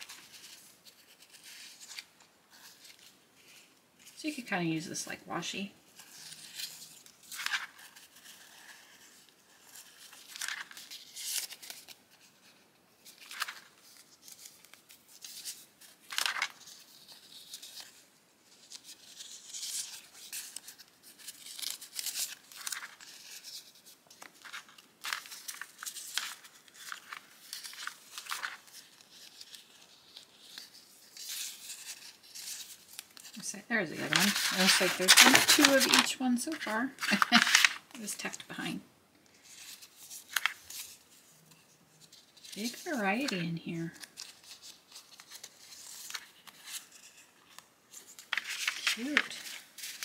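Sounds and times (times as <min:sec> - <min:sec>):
paper rustling and crinkling: 0:00.0 - 0:04.2, 0:05.9 - 0:50.0.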